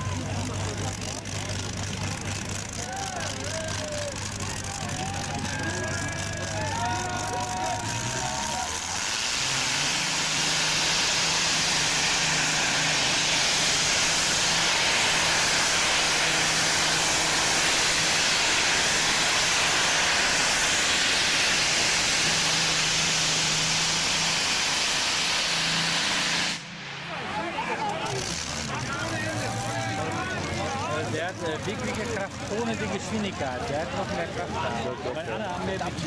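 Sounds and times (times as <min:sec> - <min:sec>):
tractor engine roaring under load: 0:00.0 - 0:36.0.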